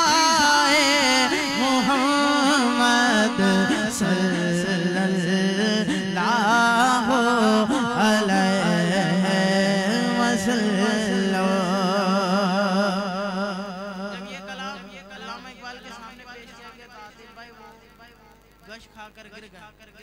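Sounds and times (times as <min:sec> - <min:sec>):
man singing into a microphone: 0:00.0 - 0:18.1.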